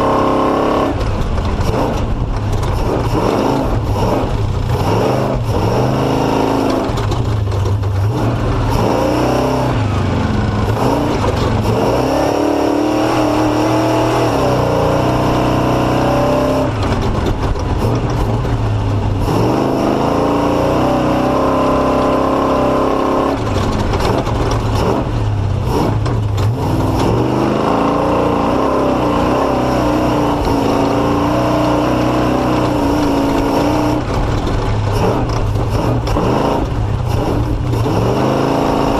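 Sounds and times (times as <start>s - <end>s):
knocks and rattles: 0.0s - 20.5s, 21.4s - 38.9s
engine revving: 0.0s - 38.9s.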